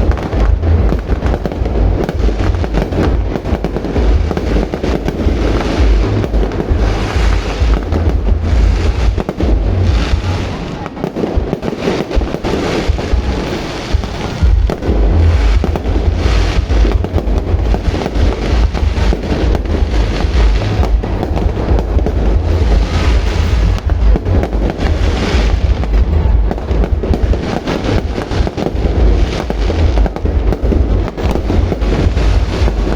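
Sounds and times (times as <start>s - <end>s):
deep rumble: 0.0s - 32.9s
fireworks bursts and crackling: 0.0s - 32.9s.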